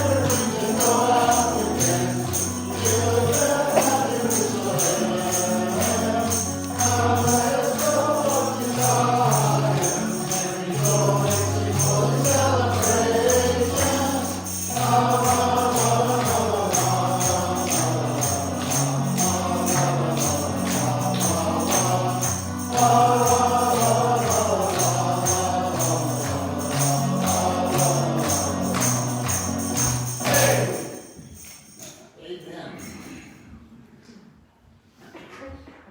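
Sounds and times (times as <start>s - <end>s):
group singing worship song: 0.0s - 31.8s
tambourines jingling: 0.0s - 32.1s, 32.7s - 33.5s.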